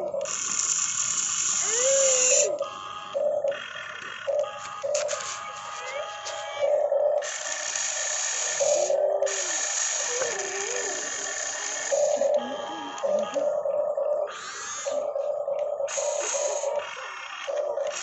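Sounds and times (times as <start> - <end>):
model excavator motors whining: 0.0 - 18.0.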